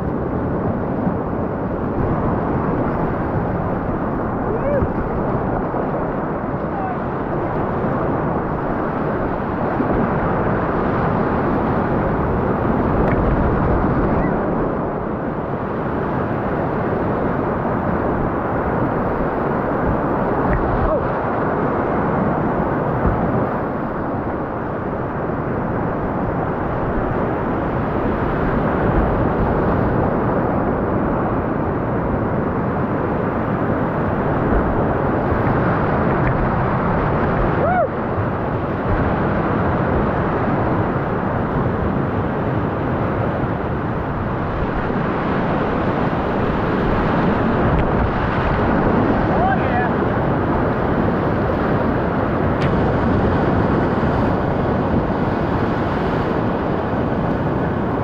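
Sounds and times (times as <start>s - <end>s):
whitewater rapids rushing: 0.1s - 15.4s, 16.0s - 31.8s, 32.5s - 58.0s.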